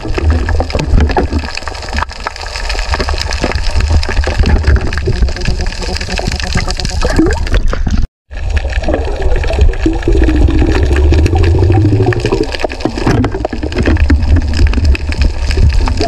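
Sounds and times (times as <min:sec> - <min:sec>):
bubbling: 0:00.0 - 0:16.0
underwater churning rumble: 0:00.0 - 0:16.0.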